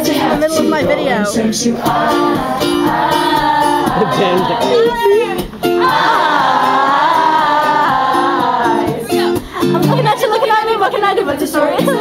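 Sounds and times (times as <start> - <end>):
woman singing: 0.0 - 3.8, 4.6 - 12.0.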